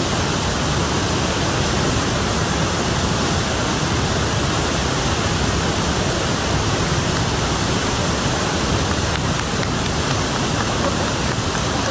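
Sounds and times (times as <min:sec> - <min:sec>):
waterfall and river rushing over rocks: 0:00.0 - 0:11.9.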